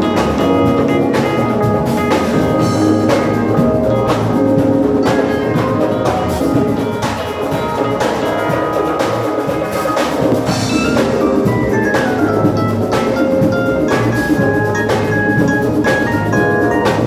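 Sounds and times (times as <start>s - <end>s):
steady drum beat: 0.0s - 17.0s
sustained pitched chords: 0.0s - 17.0s.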